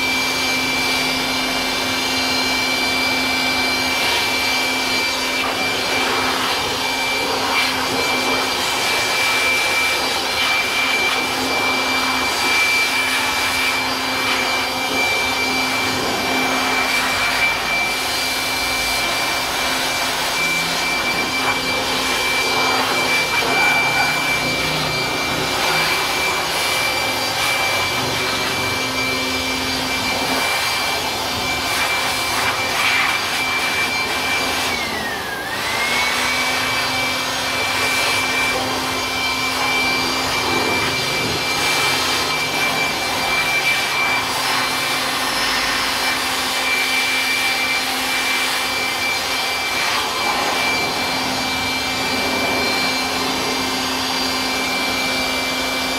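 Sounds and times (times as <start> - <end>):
electric blower running: 0.0 - 55.9.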